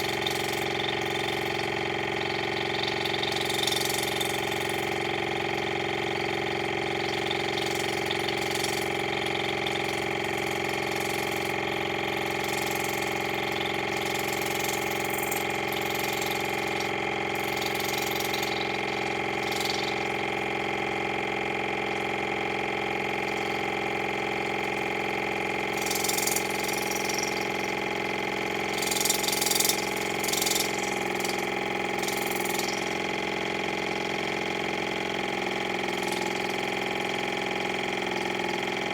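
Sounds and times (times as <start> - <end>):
water flosser pump humming: 0.0 - 38.9.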